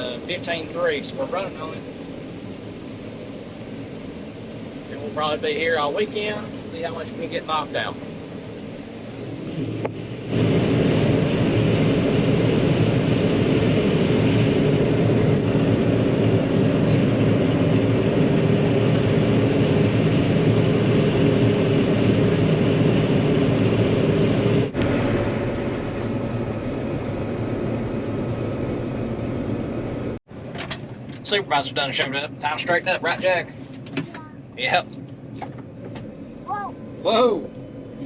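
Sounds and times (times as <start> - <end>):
faint high whine: 0.0 - 33.5, 34.6 - 38.0
combine harvester running: 0.0 - 38.0.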